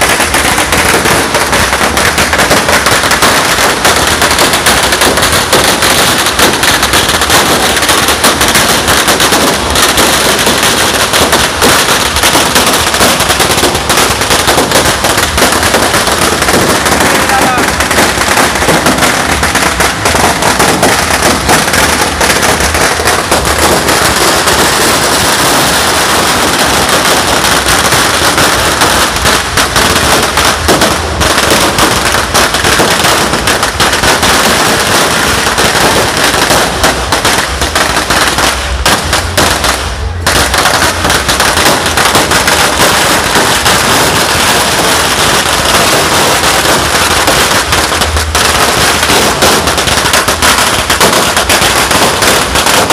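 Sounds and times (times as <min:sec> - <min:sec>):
firecrackers going off: 0:00.0 - 0:52.9.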